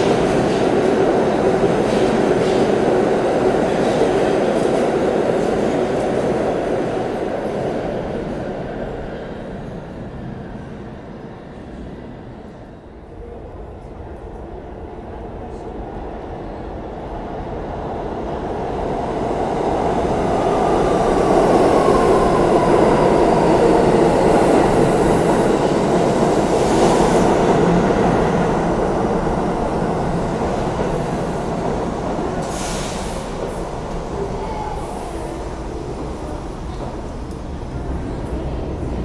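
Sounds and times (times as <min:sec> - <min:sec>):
subway train rumble: 0:00.0 - 0:39.0.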